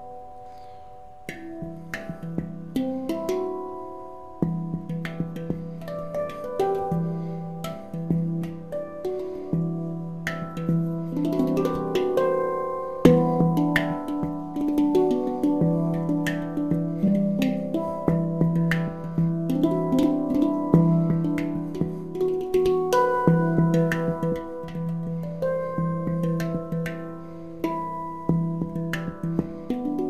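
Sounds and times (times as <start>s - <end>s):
handpan played with hands: 0.0s - 30.0s.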